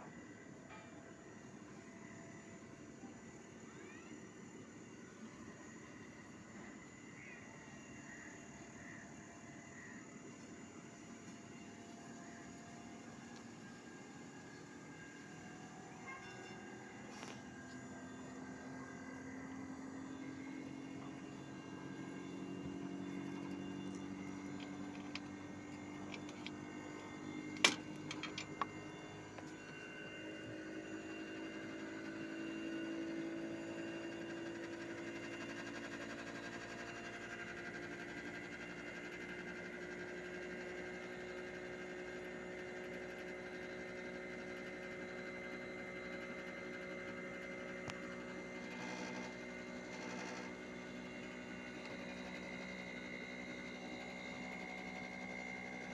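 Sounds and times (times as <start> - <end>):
air conditioner unit humming whine: 0.0 - 55.9.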